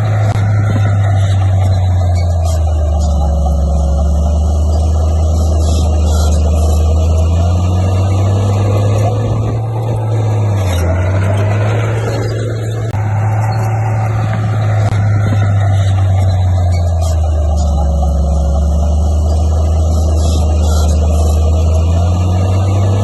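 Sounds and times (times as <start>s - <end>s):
bulldozer diesel engine under load: 0.0s - 23.0s.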